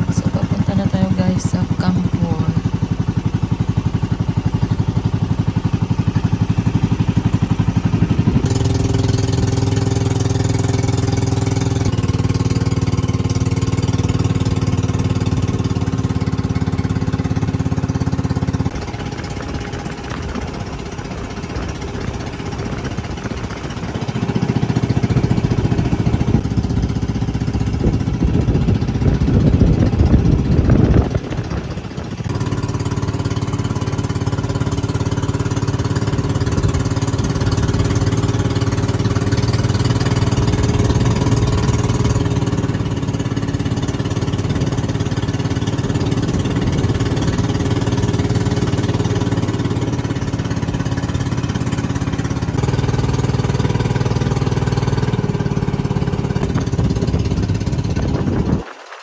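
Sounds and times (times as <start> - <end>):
vehicle engine running: 0.0 - 58.6.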